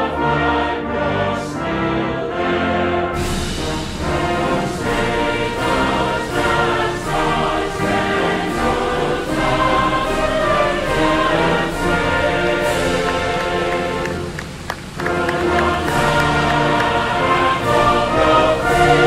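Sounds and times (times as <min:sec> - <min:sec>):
choir singing with orchestra: 0:00.0 - 0:19.0.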